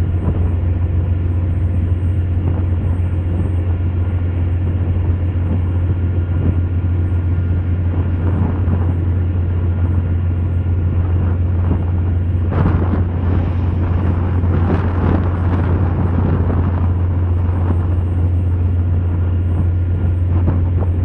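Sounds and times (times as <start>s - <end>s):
ship engine drone: 0.0s - 21.0s.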